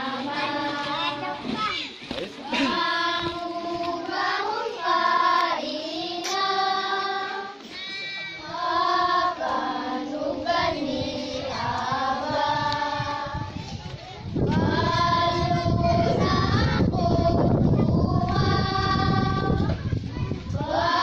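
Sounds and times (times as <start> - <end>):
children singing a folk song: 0.0 - 21.0.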